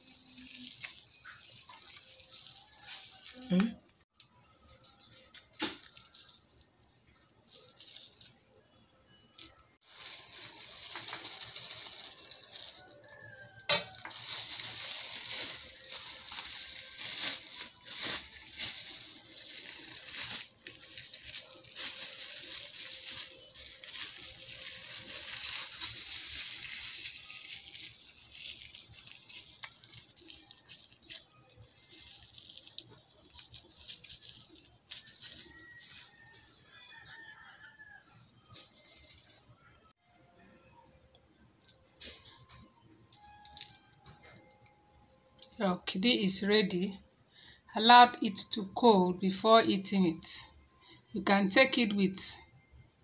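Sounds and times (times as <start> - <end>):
plastic bag crinkling: 0.0 - 39.6, 41.6 - 44.7.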